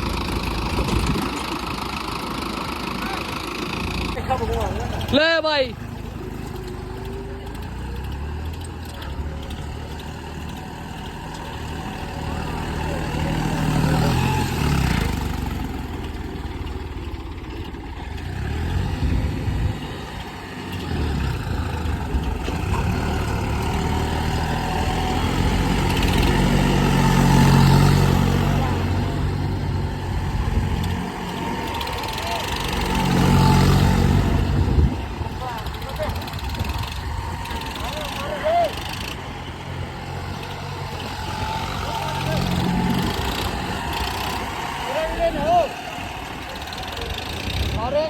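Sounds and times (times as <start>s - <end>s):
tractor engines revving under load: 0.0s - 48.0s.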